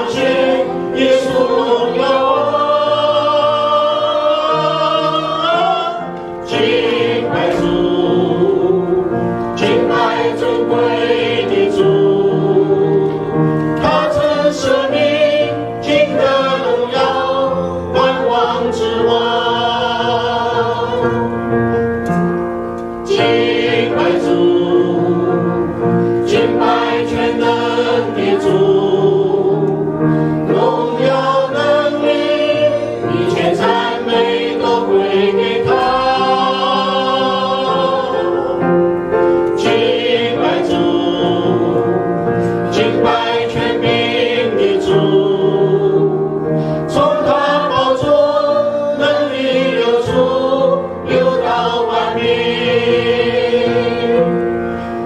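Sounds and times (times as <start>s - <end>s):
group singing into microphones: 0.0s - 22.1s, 23.0s - 55.0s
piano accompaniment: 0.0s - 55.0s.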